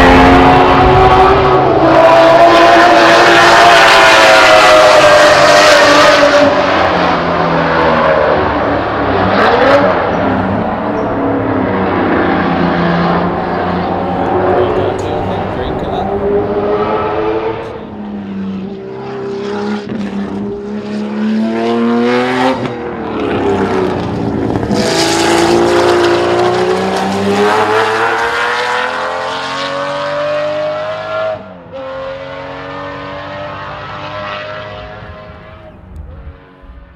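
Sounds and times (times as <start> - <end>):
race car engine screaming: 0.0 - 36.3.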